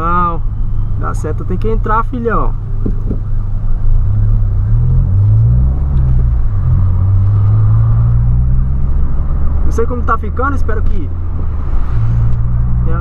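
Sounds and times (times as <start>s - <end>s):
car engine droning under acceleration: 0.0s - 13.0s.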